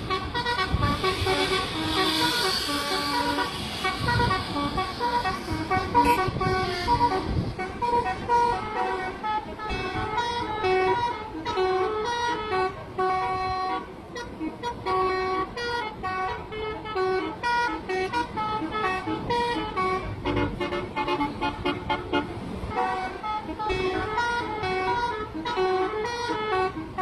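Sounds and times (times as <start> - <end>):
bus horns playing melodic runs: 0.0 - 27.0
low rumble of buses: 0.0 - 27.0.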